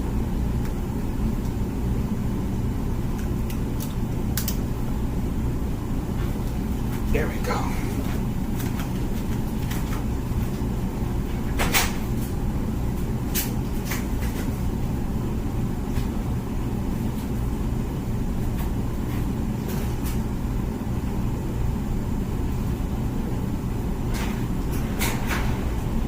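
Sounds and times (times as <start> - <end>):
dishwasher humming: 0.0 - 26.0.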